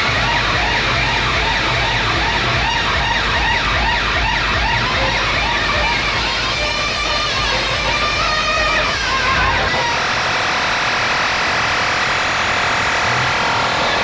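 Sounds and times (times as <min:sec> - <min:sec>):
heavy bass music: 0:00.0 - 0:14.0
siren effect sweeps: 0:00.0 - 0:14.0.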